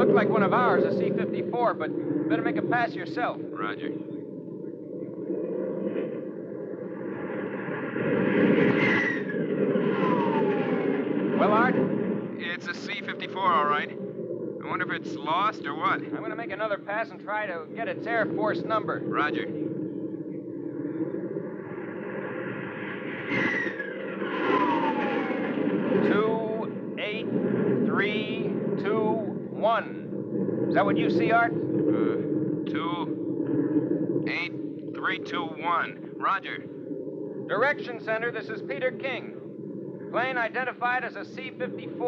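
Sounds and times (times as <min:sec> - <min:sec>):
fighter jet engine drone: 0:00.0 - 0:42.0
whine falling in pitch: 0:00.0 - 0:42.0.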